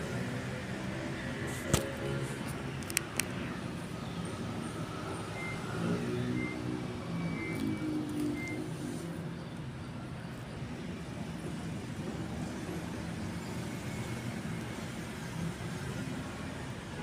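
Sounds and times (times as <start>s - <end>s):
vehicle engine rumbling: 0.0s - 16.8s.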